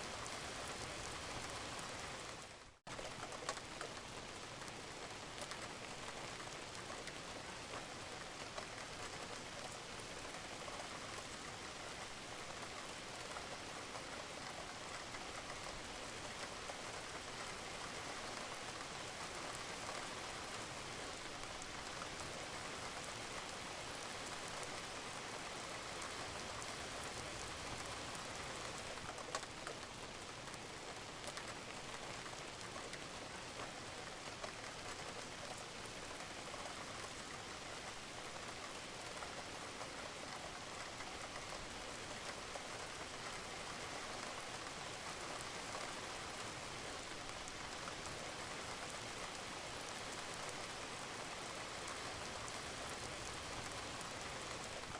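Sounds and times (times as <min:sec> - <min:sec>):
rain pattering on a roof: 0:00.0 - 0:54.9.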